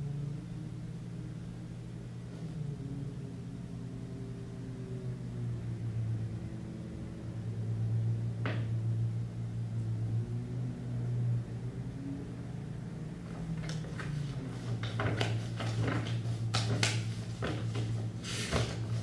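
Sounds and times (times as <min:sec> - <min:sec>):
low humming drone: 0:00.0 - 0:16.4.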